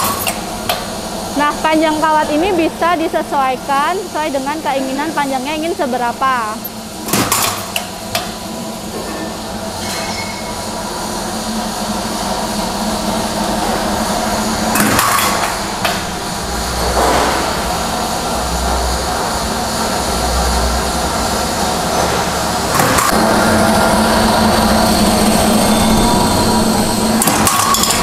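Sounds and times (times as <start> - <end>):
machine mechanical drone: 0.0 - 28.0.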